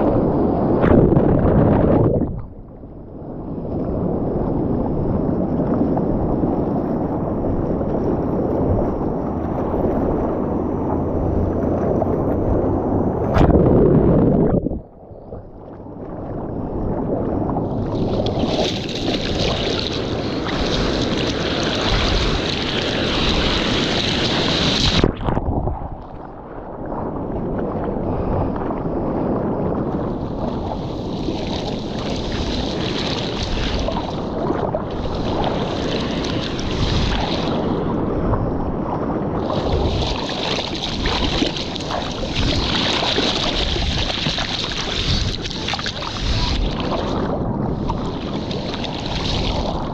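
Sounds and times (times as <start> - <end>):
sea water sloshing and splashing: 0.0 - 49.9
wind buffeting microphone: 0.0 - 49.9.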